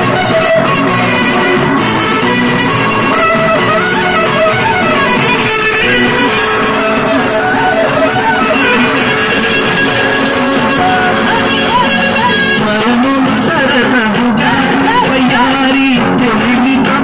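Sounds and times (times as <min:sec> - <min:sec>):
loud music with winding melody: 0:00.0 - 0:17.0.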